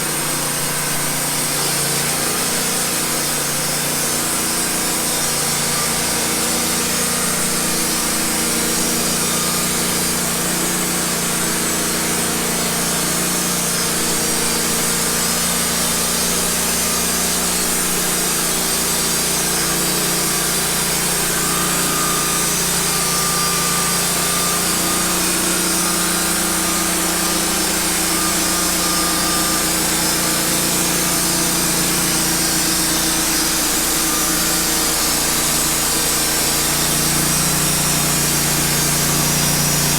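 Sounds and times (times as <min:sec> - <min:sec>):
band sawmill sawing through log: 0:00.0 - 0:39.9.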